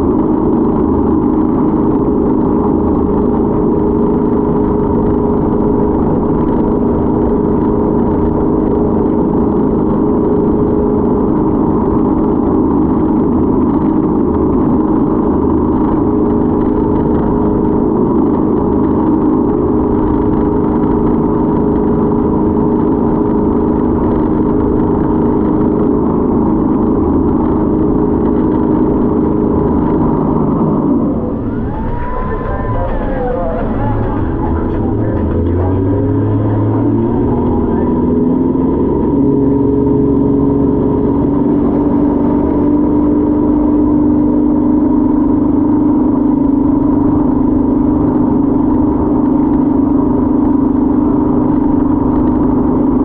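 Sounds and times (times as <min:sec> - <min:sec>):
motorboat engine running: 0:00.0 - 0:53.0.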